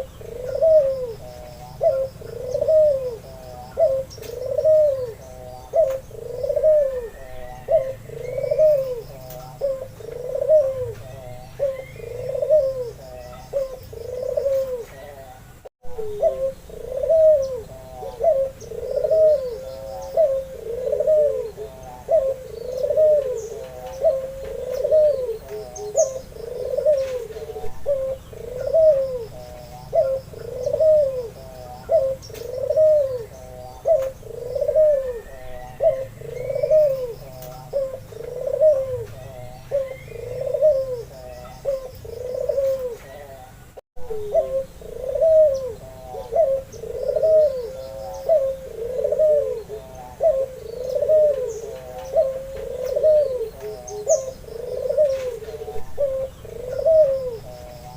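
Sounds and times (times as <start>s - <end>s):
dove cooing: 0.0s - 57.9s
small birds chirping: 0.0s - 57.9s.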